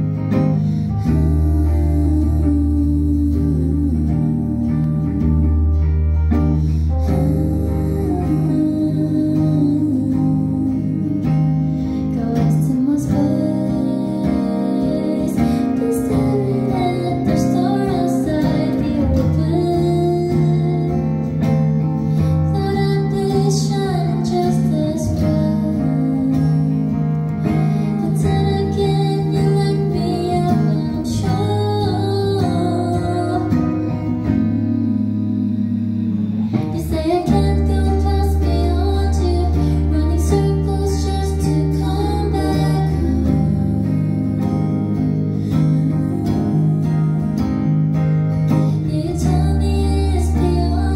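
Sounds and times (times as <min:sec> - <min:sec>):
electric guitar: 0:00.0 - 0:50.9
sustained low notes: 0:00.0 - 0:50.9
woman singing: 0:00.0 - 0:50.9.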